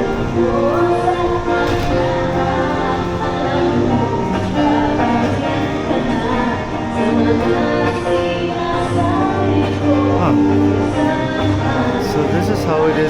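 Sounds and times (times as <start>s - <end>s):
singing: 0.0s - 13.0s.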